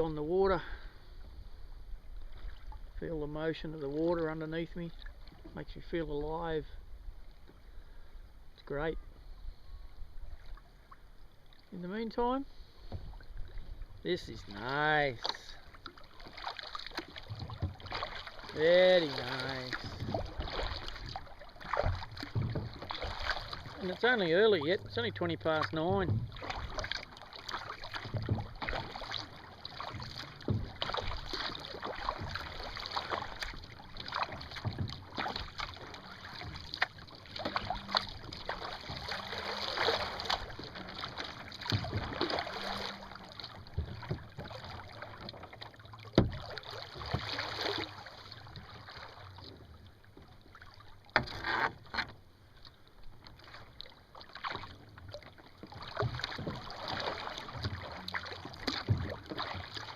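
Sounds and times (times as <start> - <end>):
water splashing around kayak hull: 0.0 - 59.9.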